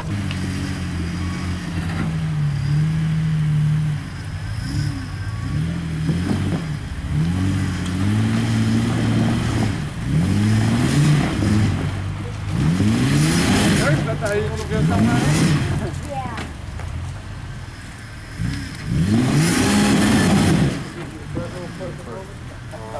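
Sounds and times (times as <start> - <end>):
off-road vehicle engine revving: 0.0 - 22.9.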